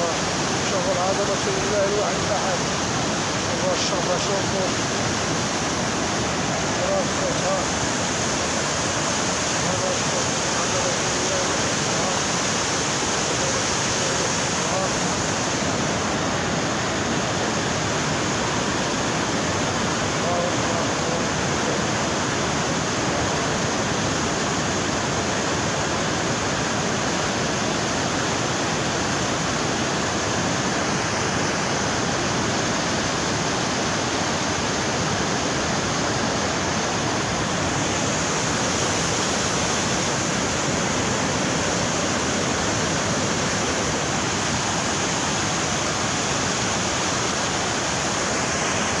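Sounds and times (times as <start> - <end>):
river rushing through channel: 0.0 - 49.0.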